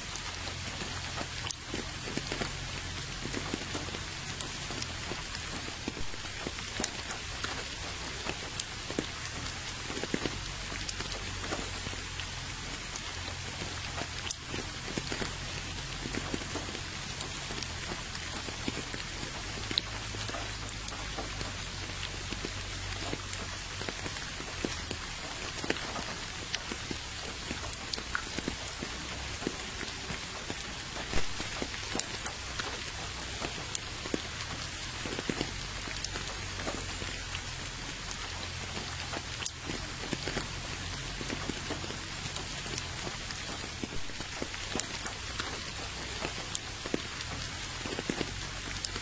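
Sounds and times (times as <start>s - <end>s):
rain falling into a puddle: 0.0s - 49.0s.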